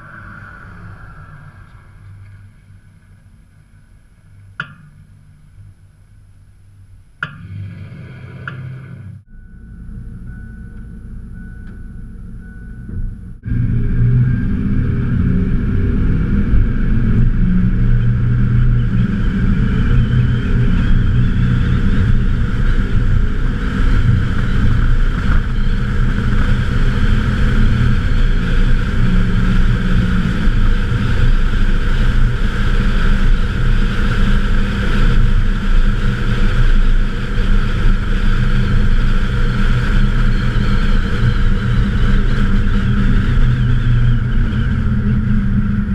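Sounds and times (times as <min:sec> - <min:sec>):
truck exhaust low rumble: 0:00.0 - 0:45.9.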